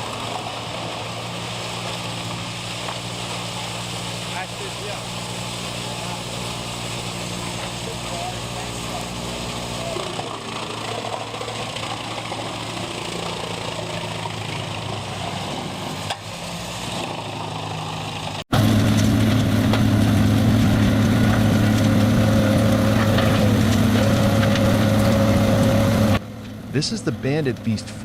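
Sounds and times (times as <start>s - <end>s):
wood chipper engine running: 0.0s - 28.0s
wood grinder engine droning: 0.0s - 28.0s.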